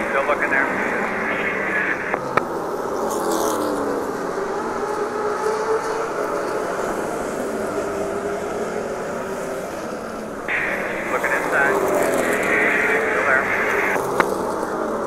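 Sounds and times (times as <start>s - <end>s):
race car engine droning: 0.0s - 15.0s.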